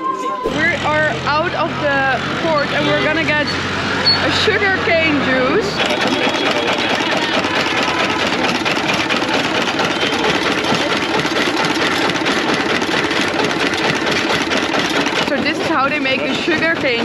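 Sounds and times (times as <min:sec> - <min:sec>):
sugarcane crusher mechanical chatter: 0:00.5 - 0:17.0.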